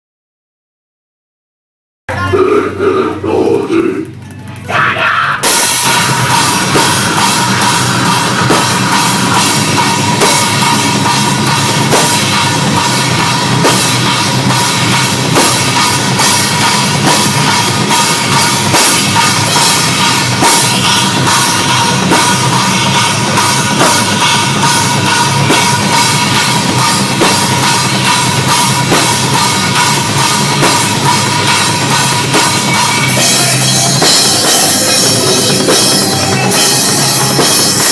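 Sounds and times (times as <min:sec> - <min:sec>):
metal band playing live: 0:02.1 - 0:37.9.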